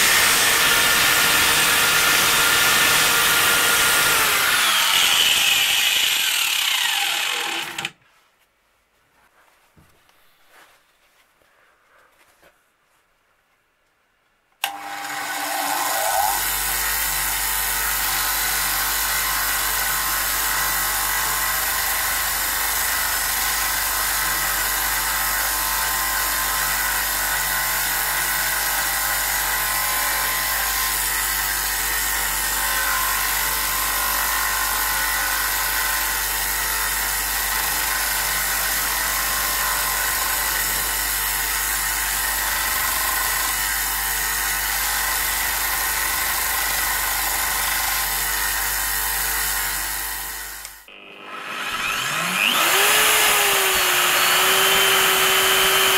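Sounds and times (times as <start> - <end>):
bench grinder running: 0.0 - 8.0, 14.6 - 55.9.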